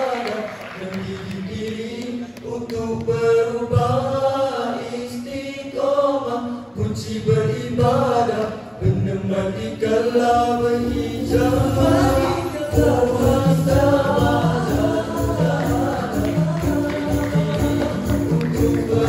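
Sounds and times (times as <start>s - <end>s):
male vocal group singing: 0.0s - 19.0s.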